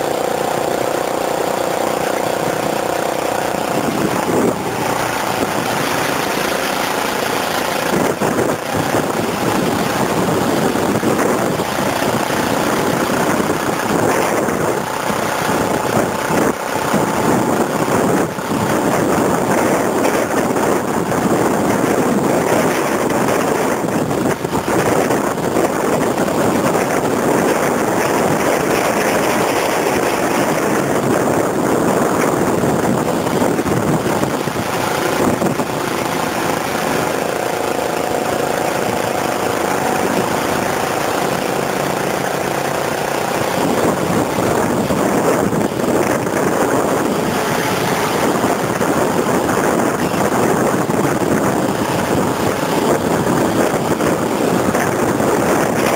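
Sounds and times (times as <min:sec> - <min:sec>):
vehicle engine running: 0:00.0 - 0:55.9
wind buffeting microphone: 0:00.0 - 0:55.9.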